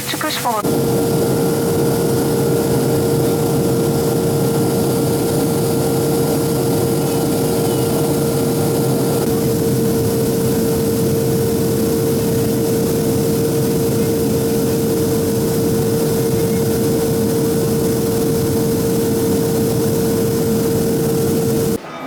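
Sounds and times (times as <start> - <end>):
constant hum: 0.0 - 21.8
airliner engine drone: 0.0 - 21.9.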